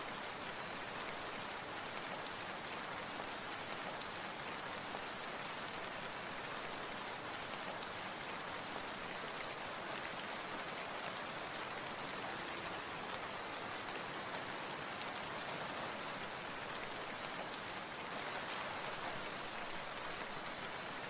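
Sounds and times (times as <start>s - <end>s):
steady water hiss: 0.0s - 21.0s.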